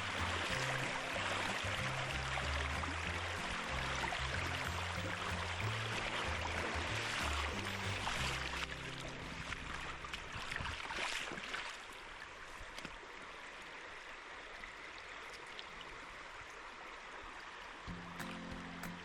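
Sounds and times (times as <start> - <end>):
water running in a stream: 0.0 - 19.0.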